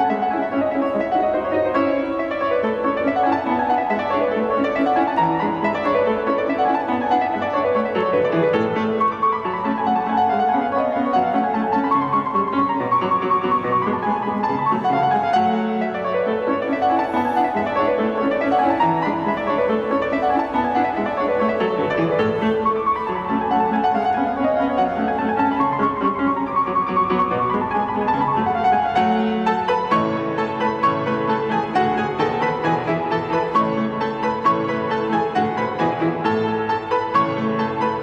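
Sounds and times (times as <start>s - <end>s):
classical piano music: 0.0s - 38.0s.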